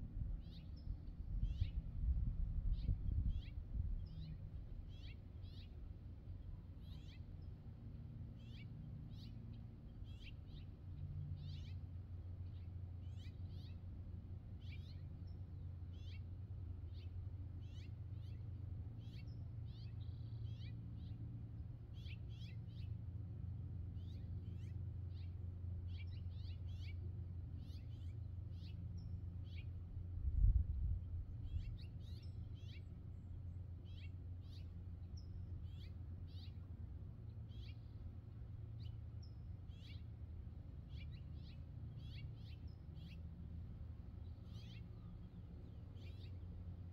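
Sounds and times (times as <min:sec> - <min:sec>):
steady low hum: 0:00.0 - 0:46.9
small birds chirping: 0:00.4 - 0:01.8, 0:02.7 - 0:21.3, 0:21.9 - 0:23.0, 0:23.8 - 0:29.9, 0:31.1 - 0:46.9.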